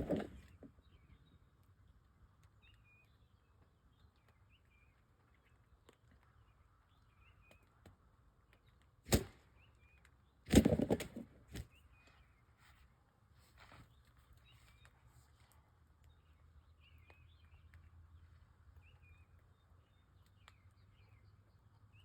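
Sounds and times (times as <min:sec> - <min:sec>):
songbird chirps: 0:00.0 - 0:10.9, 0:11.5 - 0:22.0.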